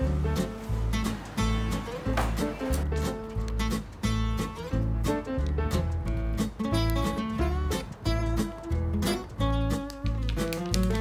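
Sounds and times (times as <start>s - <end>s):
upbeat music with plucked guitar: 0.0s - 11.0s.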